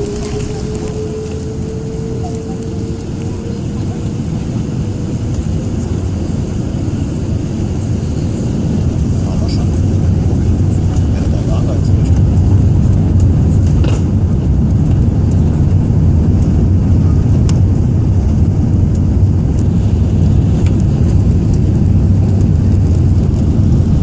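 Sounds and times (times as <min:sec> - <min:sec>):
airplane cabin rumble and hum: 0:00.0 - 0:24.0.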